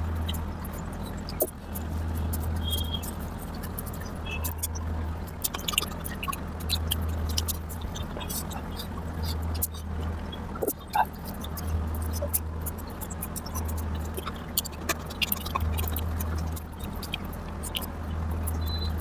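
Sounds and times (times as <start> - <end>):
steady low hum: 0.0 - 19.0
wet chewing and lip-smacking: 0.0 - 19.0.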